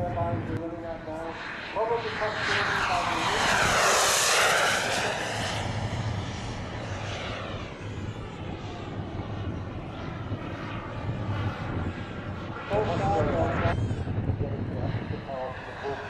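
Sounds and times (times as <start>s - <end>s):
model jet flyby: 0.0s - 16.0s.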